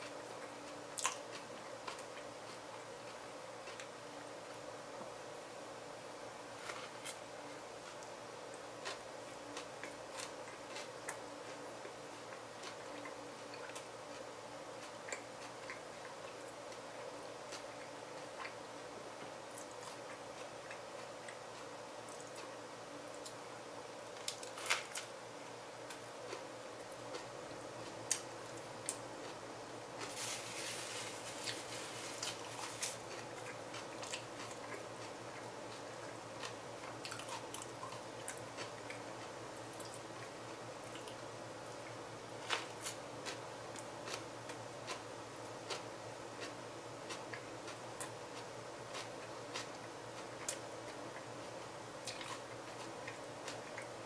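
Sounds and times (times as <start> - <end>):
person chewing a sandwich: 0.0 - 4.0, 6.5 - 23.4, 25.8 - 54.0
low background hum: 0.0 - 54.0.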